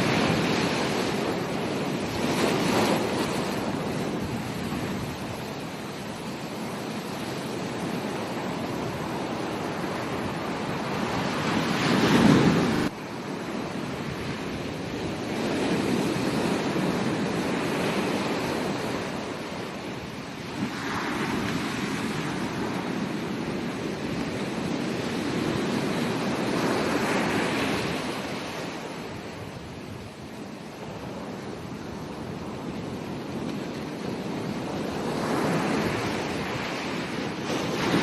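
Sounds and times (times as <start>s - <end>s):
ocean waves breaking on beach: 0.0s - 38.0s.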